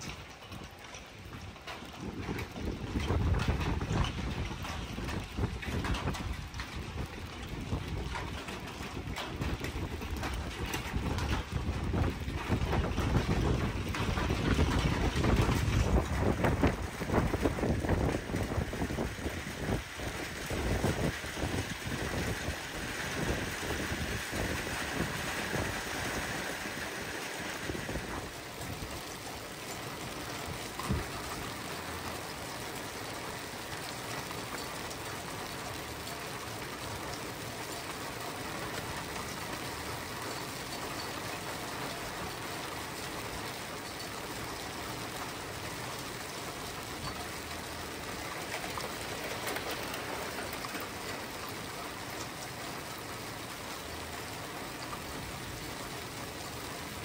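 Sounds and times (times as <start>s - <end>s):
hail and heavy rain on asphalt: 0.0s - 57.0s.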